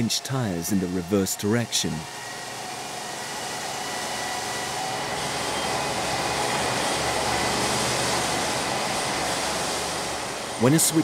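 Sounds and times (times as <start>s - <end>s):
steady mechanical whir: 0.0s - 11.0s.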